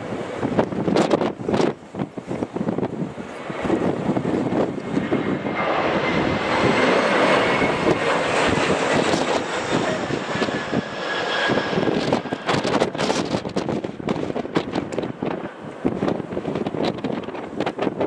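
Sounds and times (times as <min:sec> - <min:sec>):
airliner engines passing: 0:00.0 - 0:18.0.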